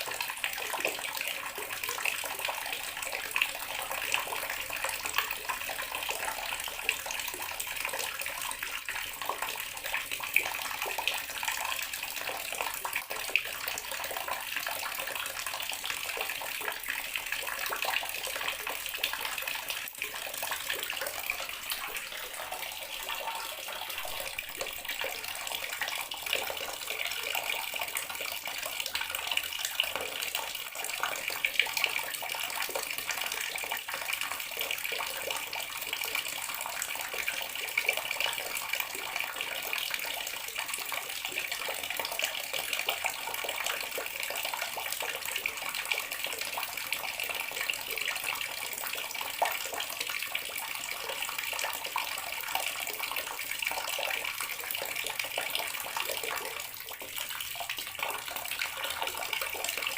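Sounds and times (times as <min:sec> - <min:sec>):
water running from tap: 0:00.0 - 0:59.9.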